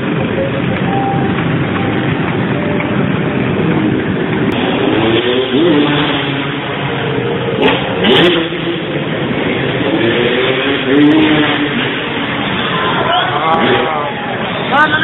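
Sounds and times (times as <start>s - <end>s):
loud background din: 0.0s - 15.0s
motorcycle engine revving: 0.0s - 15.0s.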